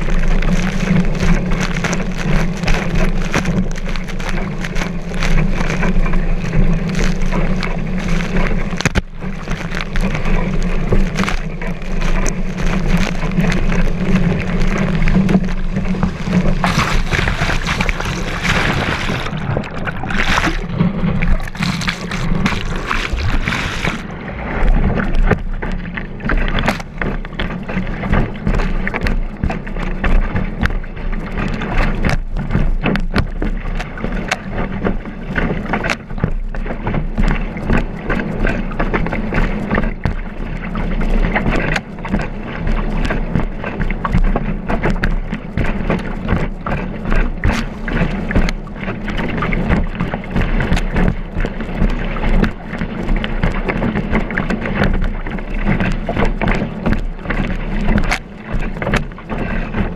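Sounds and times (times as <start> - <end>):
board slapping water: 0.0 - 59.9
water rushing along board: 0.0 - 59.9.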